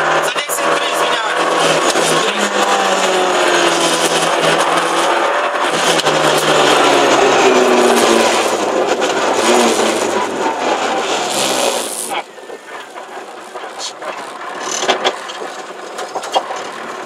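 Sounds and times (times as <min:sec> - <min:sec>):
car engine: 0:00.0 - 0:17.0
road noise inside car: 0:00.0 - 0:17.0.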